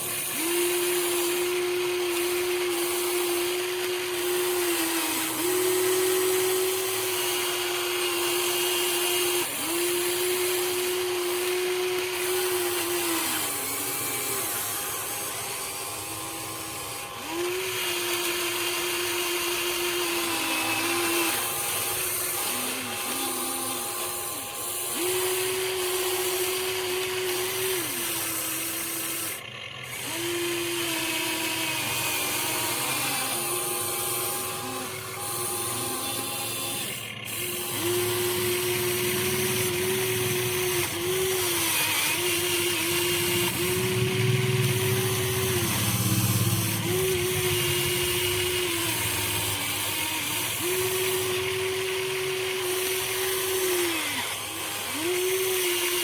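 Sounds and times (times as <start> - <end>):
toy excavator motors whining: 0.0 - 56.0.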